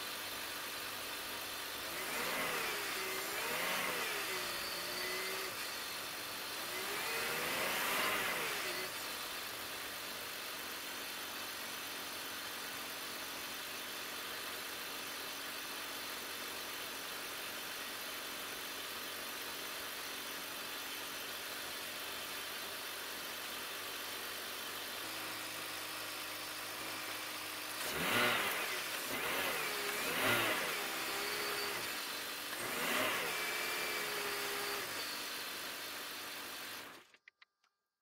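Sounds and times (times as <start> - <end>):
car engine idling and revving: 0.0 - 37.5.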